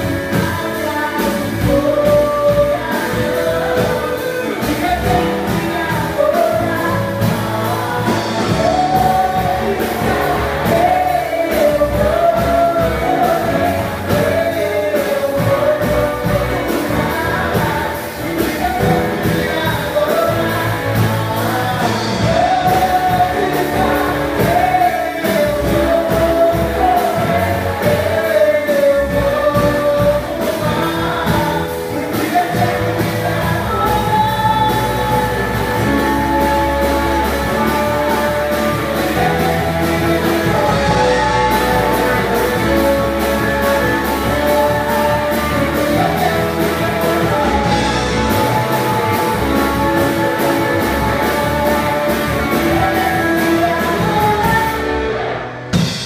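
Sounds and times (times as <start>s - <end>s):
live worship band playing: 0.0s - 56.0s
person singing: 0.0s - 56.0s.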